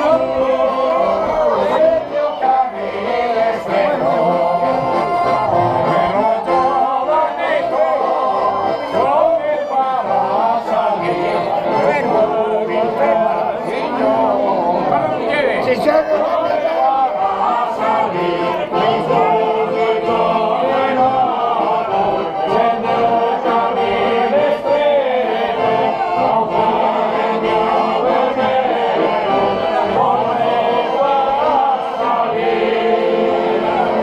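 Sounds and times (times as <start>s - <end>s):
men singing in chorus: 0.0s - 15.3s, 16.0s - 34.0s
accordion: 0.0s - 34.0s.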